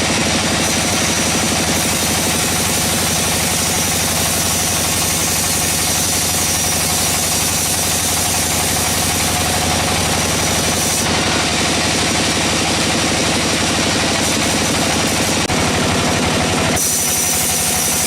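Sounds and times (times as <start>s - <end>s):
sawmill engine pulsing: 0.0s - 18.0s.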